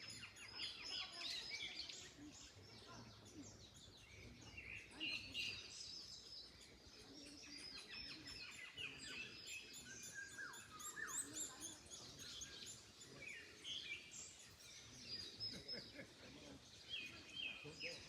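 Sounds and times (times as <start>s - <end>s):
songbirds singing and calling: 0.0s - 18.0s.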